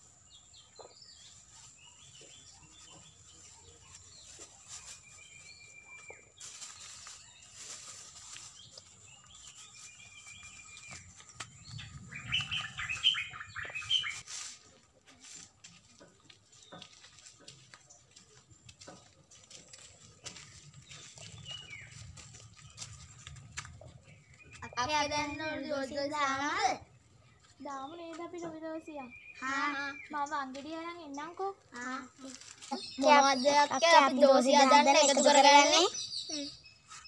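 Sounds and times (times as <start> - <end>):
birds chirping and twittering: 0.0 - 14.5, 15.3 - 37.0.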